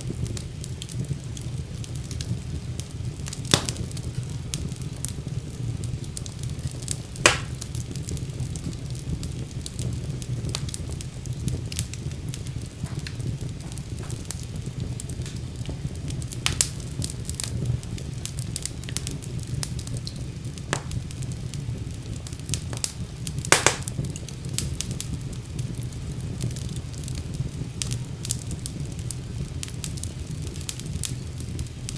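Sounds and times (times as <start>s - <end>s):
low rumble of flame: 0.0s - 31.9s
wood fire crackling: 0.0s - 31.9s
sharp pops of fire: 0.1s - 31.9s.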